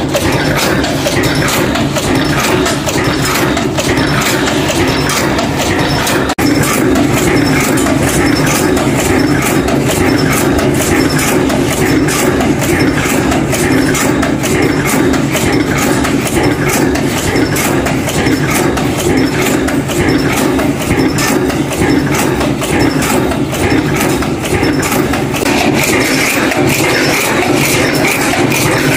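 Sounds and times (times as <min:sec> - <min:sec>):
heavy mechanical hum: 0:00.0 - 0:28.9
machine clattering: 0:00.0 - 0:28.9.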